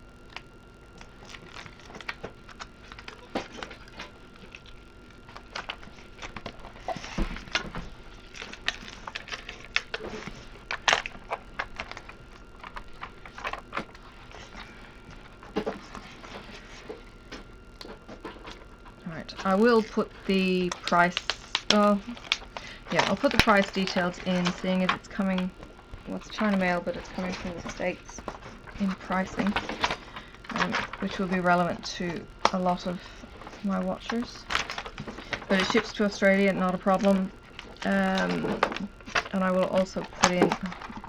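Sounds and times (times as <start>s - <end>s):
plastic film crinkling and rustling: 0.1s - 41.0s.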